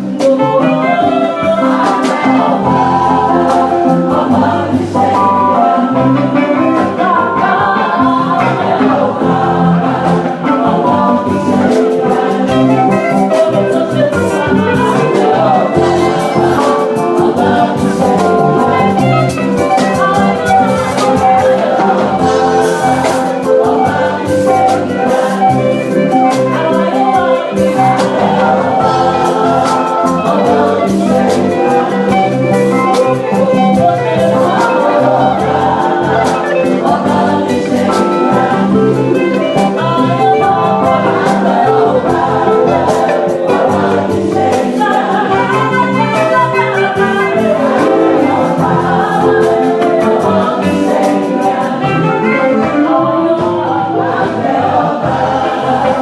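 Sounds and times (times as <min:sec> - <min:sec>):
choir singing gospel: 0:00.0 - 0:56.0
instrumental accompaniment: 0:00.0 - 0:56.0
percussion hits: 0:01.7 - 0:52.9.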